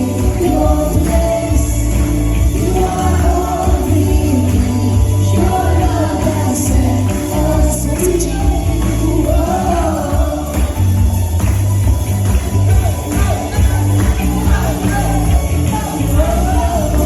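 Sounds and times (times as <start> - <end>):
band playing worship music: 0.0 - 17.0
group of people singing: 0.0 - 17.0.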